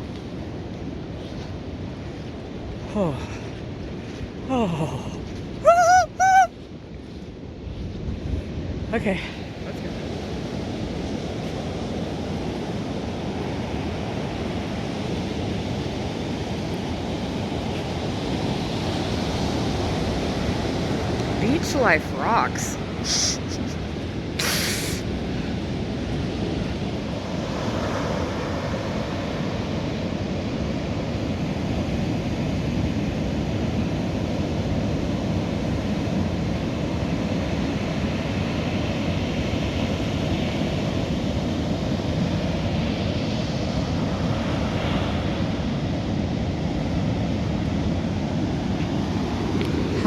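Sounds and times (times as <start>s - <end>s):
waves washing on beach: 0.0s - 50.0s
wind rumbling on microphone: 0.0s - 50.0s.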